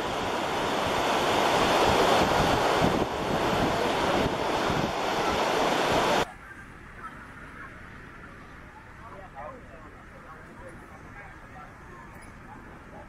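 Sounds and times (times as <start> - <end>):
surf breaking on a beach: 0.0 - 11.5
wind on the microphone: 0.0 - 13.0.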